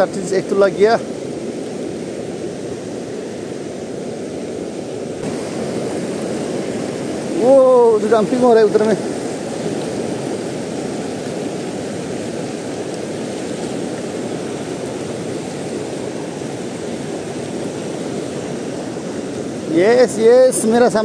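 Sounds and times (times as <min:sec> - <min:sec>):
river rapids rushing over boulders: 0:00.0 - 0:21.0.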